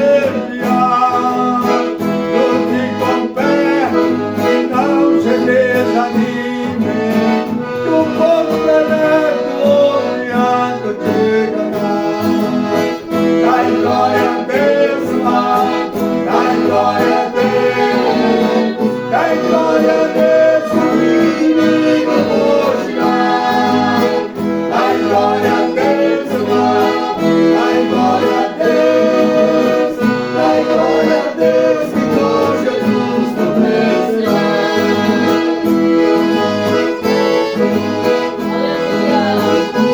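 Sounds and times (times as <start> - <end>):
accordion playing: 0.0 - 39.9.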